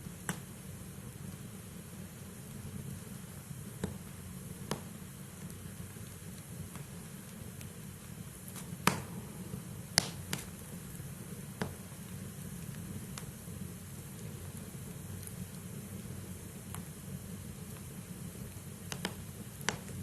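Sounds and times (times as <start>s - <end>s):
low rumble of fire: 0.0s - 20.0s
firewood crackling pops: 0.2s - 0.7s, 2.8s - 20.0s.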